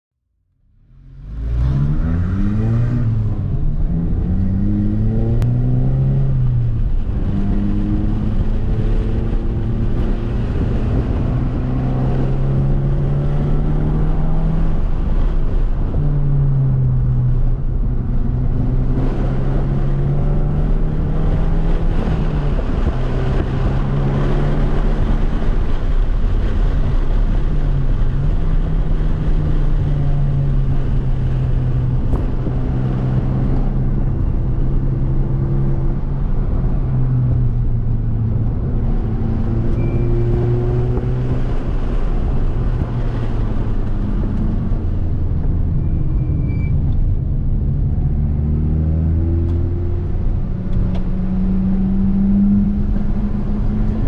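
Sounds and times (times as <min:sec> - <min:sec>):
car engine revving through gears: 0:01.0 - 0:54.0.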